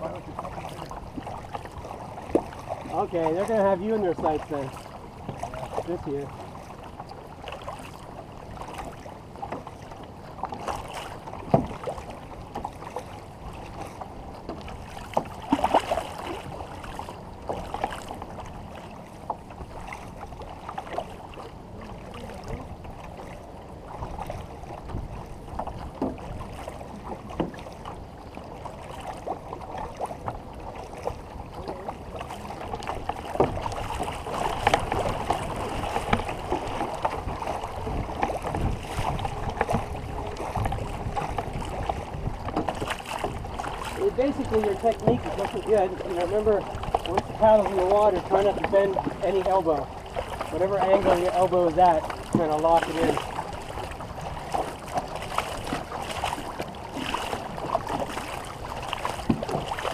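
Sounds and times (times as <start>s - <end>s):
canoe paddles in water: 0.0s - 59.9s
water splashes: 0.0s - 59.9s
water washing along hull: 0.0s - 59.9s.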